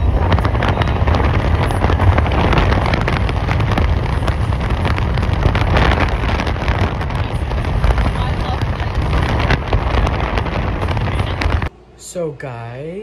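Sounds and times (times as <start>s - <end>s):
car driving on road: 0.0s - 11.7s
wind buffeting microphone: 0.0s - 11.7s.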